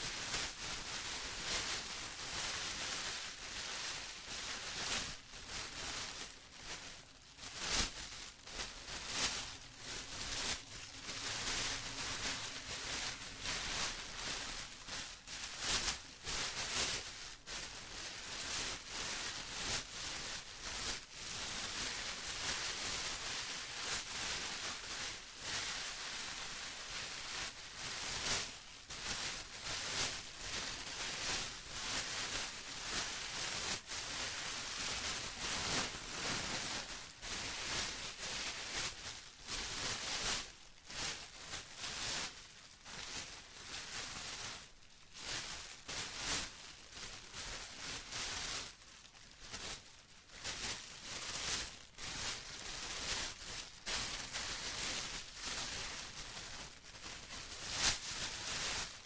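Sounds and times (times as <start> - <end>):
plastic rustling and crinkling: 0.0 - 59.0.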